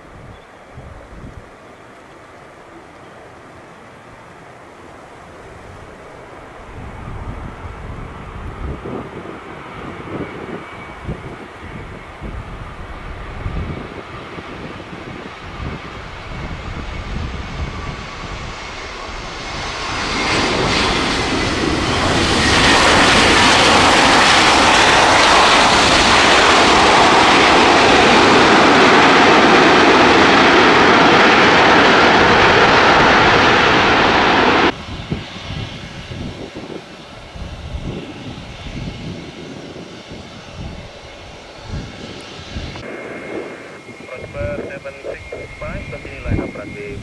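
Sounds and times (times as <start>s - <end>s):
jet engine whine: 0.0s - 47.0s
wind rumble: 5.3s - 47.0s
jet reverse thrust roar: 5.7s - 47.0s.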